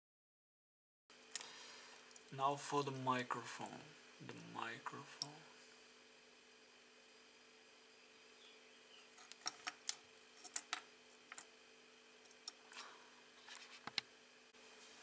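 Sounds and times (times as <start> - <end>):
faint hum: 1.1 - 15.0.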